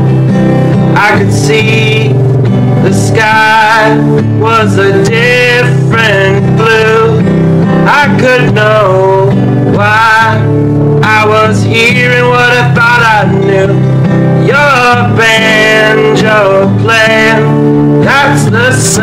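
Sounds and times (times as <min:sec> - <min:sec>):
song with guitar: 0:00.0 - 0:19.0.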